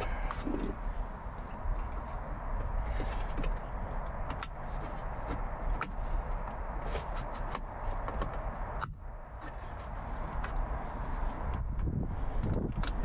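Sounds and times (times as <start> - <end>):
steady low rumble: 0.0 - 13.0
plastic clicks and scrapes: 1.4 - 13.0.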